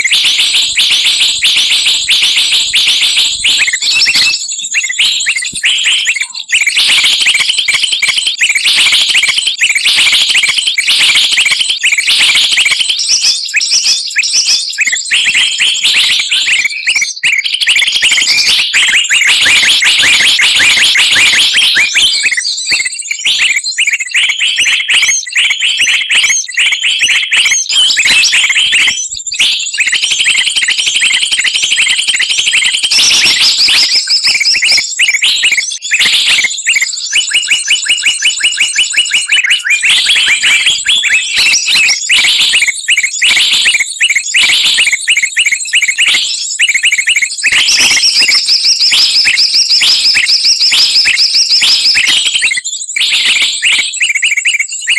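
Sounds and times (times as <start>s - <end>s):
songbirds chattering and trilling: 0.0s - 54.9s.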